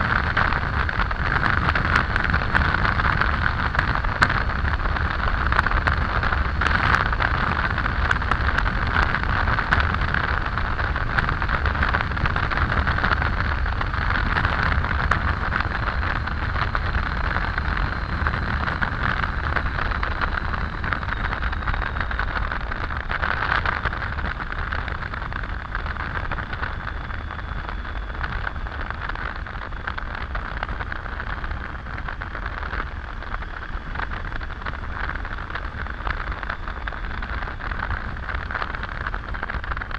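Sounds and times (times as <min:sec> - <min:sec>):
wind rush and road noise: 0:00.0 - 0:39.9.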